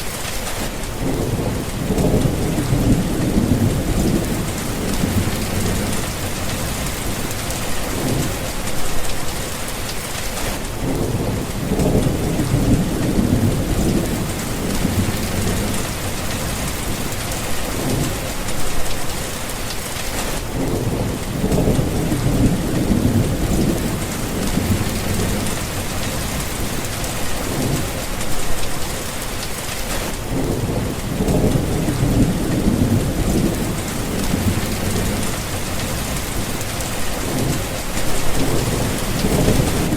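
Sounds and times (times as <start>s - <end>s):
heavy rain hiss: 0.0s - 39.9s
rolling thunder rumbles: 0.6s - 9.8s, 10.7s - 19.3s, 20.4s - 39.9s.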